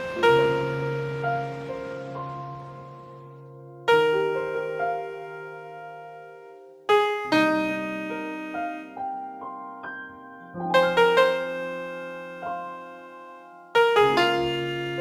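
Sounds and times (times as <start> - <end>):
solo piano slow melody: 0.0 - 15.0.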